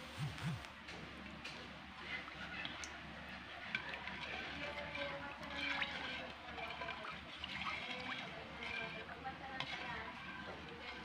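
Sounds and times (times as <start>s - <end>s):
liquid sloshing in a pan: 1.5s - 11.0s.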